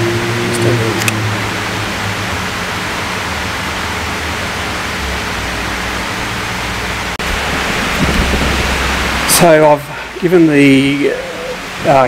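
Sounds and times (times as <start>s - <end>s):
steady hiss: 0.4s - 12.0s.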